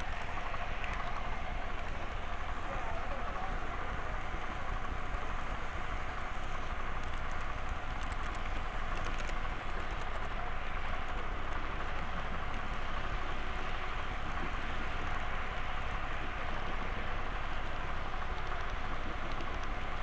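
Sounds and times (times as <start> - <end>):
model train whirring rattle: 0.0 - 20.0.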